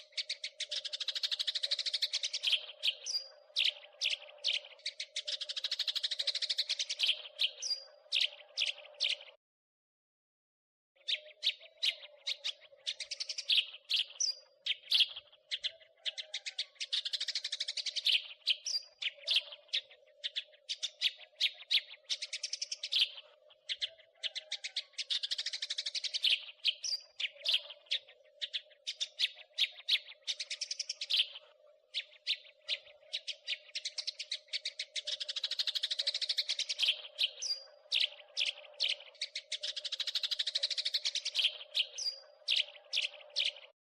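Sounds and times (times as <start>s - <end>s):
sparrow chirping and chattering: 0.0s - 9.4s, 11.0s - 43.7s.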